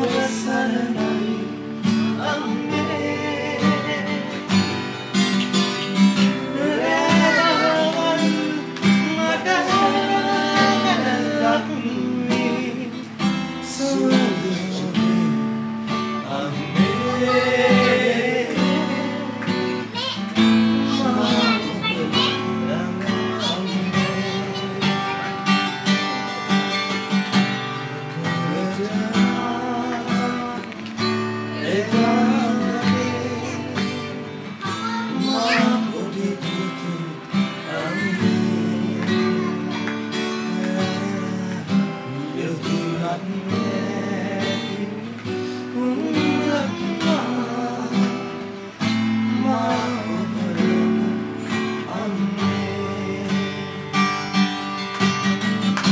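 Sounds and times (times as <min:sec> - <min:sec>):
acoustic guitar strumming chords: 0:00.0 - 0:55.9
man singing: 0:00.0 - 0:55.9.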